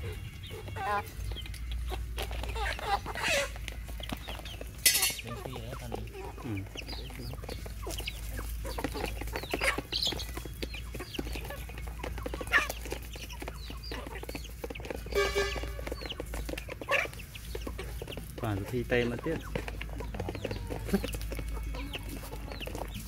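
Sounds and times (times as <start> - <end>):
chicken drawn-out call: 0.0 - 23.0
chickens clucking: 0.0 - 23.0.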